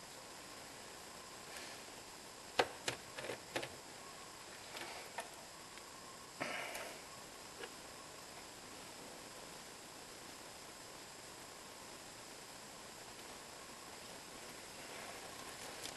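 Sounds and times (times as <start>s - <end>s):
steady low hiss: 0.0s - 15.9s.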